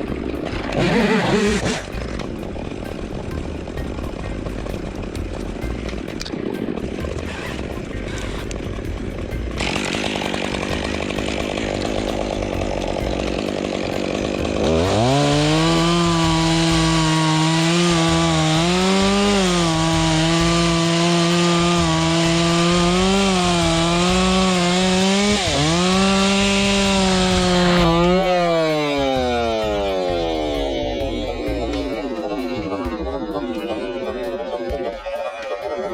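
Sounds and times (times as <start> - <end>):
chainsaw cutting wood: 0.0 - 32.8.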